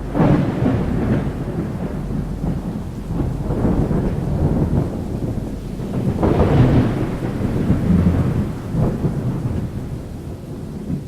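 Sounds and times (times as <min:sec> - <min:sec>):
rain: 0:00.0 - 0:11.0
thunder rumbling: 0:00.0 - 0:11.0.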